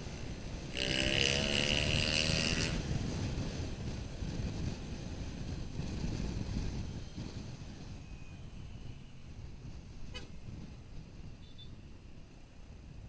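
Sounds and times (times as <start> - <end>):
motorcycle engine: 0.0 - 11.9
wind noise: 0.0 - 13.0.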